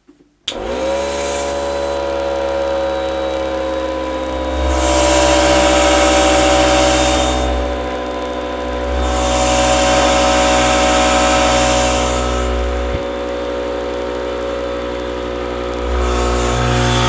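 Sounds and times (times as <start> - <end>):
compressor motor humming: 0.5 - 17.0.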